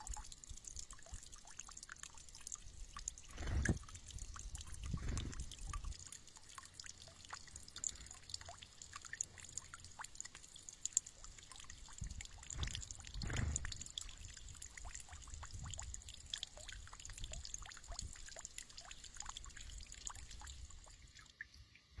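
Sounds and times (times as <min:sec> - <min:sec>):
water trickling and dripping: 0:00.0 - 0:22.0.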